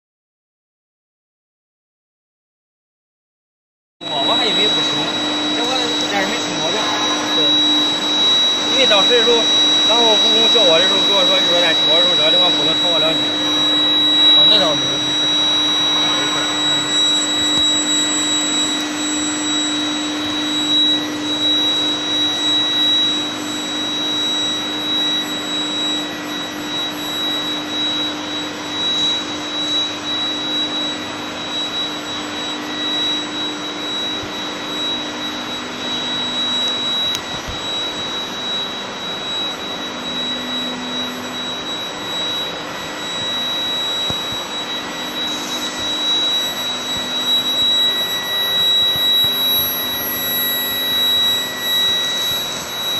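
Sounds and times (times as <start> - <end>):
factory machinery roar: 4.0 - 52.9
high-pitched whine: 4.0 - 52.9.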